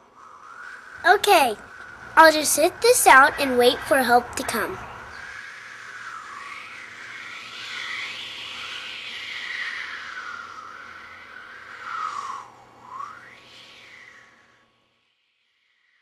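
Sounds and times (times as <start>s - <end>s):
howling blizzard wind: 0.0s - 14.6s.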